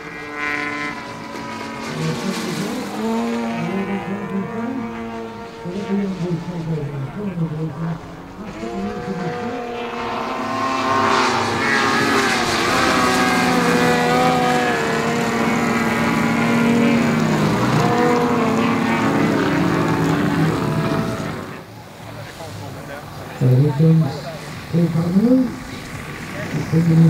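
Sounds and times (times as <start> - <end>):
model plane propeller engines: 0.0 - 27.0.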